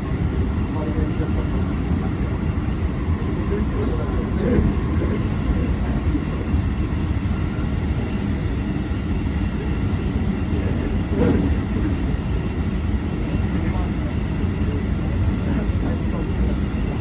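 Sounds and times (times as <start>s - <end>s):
train rumbling inside carriage: 0.0s - 17.0s.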